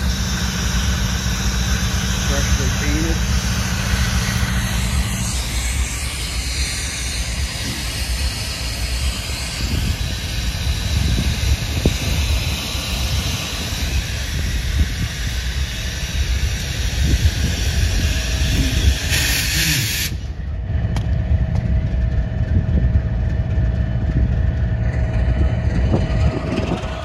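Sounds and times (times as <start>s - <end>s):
diesel locomotives idling: 0.0s - 27.0s.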